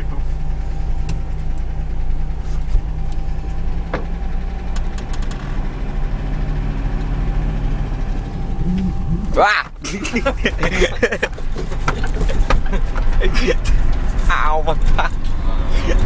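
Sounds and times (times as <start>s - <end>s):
engine droning inside cab: 0.0s - 16.0s.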